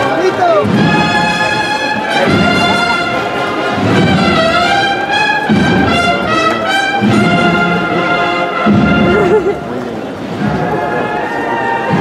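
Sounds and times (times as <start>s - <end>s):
brass band playing a march: 0.0s - 12.0s.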